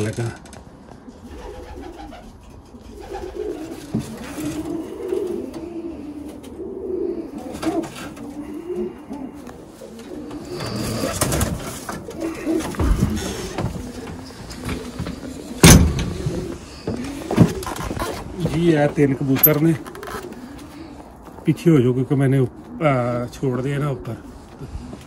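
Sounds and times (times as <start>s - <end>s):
birds clattering and rustling: 0.0s - 21.5s
pigeons cooing: 0.7s - 25.0s.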